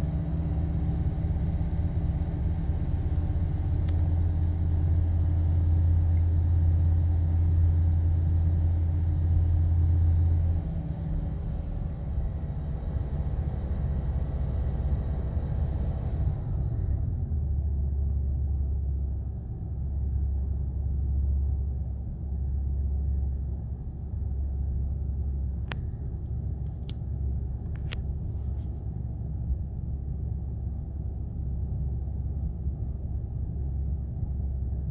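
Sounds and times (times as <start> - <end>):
engine idling with misfire: 0.0 - 34.9.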